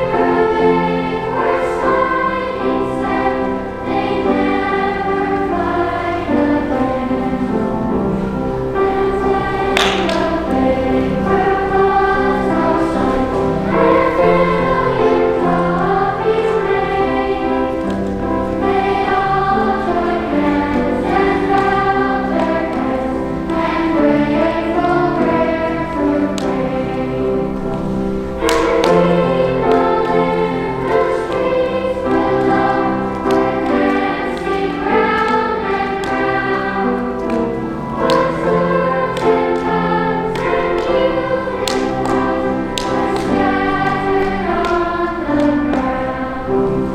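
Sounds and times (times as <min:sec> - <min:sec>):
choir singing held notes: 0:00.0 - 0:46.9.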